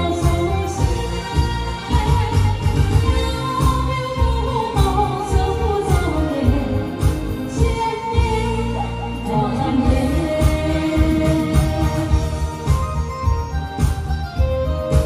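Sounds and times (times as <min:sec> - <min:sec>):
thumping bass beat: 0:00.0 - 0:09.2, 0:09.8 - 0:15.0
woman singing: 0:00.0 - 0:13.0
amplified backing music: 0:00.0 - 0:15.0.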